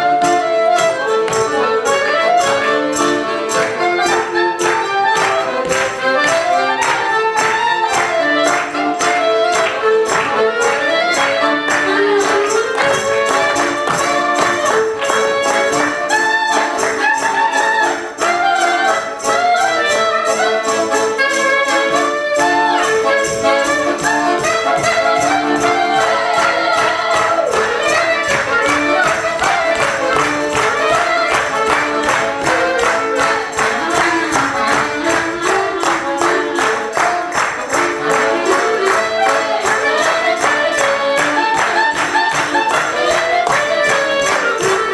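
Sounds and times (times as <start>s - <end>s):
clarinet: 0.0s - 44.9s
piano accordion: 0.0s - 44.9s.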